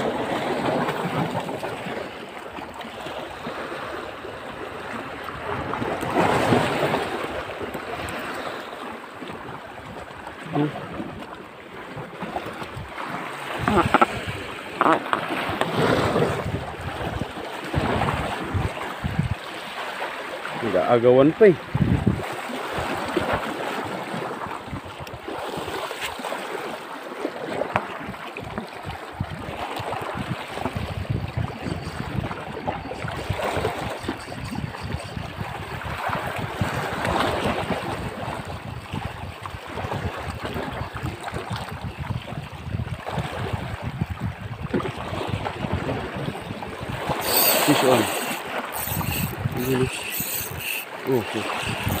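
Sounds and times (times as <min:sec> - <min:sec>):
waves splashing over rocks: 0:00.0 - 0:42.2, 0:44.7 - 0:52.0
wind buffeting microphone: 0:03.0 - 0:19.4, 0:21.6 - 0:25.8, 0:27.5 - 0:52.0.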